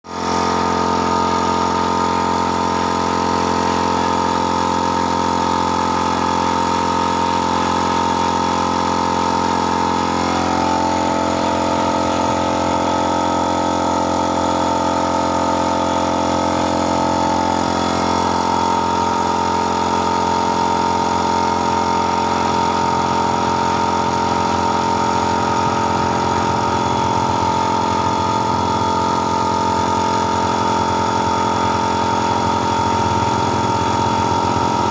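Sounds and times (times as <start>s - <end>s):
motor humming with high whine: 0.1s - 34.9s.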